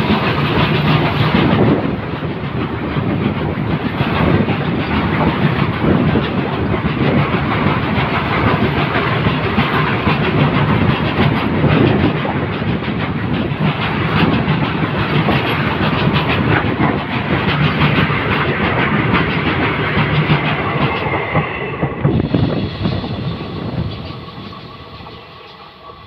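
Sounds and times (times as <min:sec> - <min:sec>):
freight train wheels rumbling: 0:00.0 - 0:26.0
wheels clacking over rail joints: 0:00.0 - 0:26.0.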